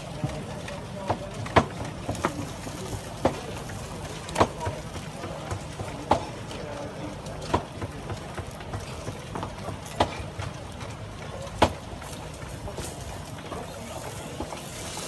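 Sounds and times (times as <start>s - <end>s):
utensil clacking on metal pan: 0.0s - 13.4s.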